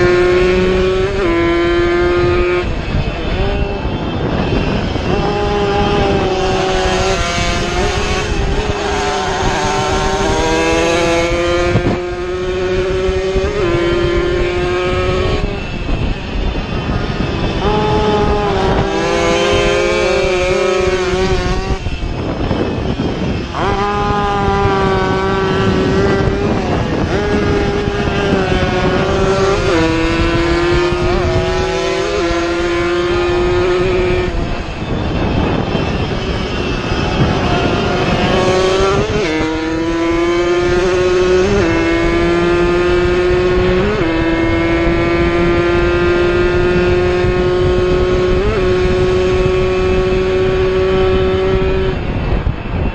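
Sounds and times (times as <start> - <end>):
racing motorcycle engines: 0.0 - 52.9.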